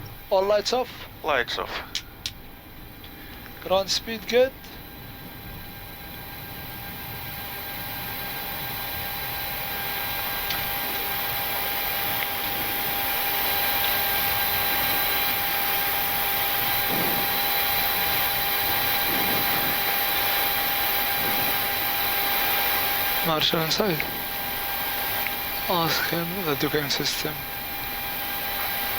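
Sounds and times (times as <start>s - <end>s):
cabin air flow: 0.0s - 28.9s
jet engines idling: 0.0s - 28.9s
thin high hum: 0.0s - 28.9s.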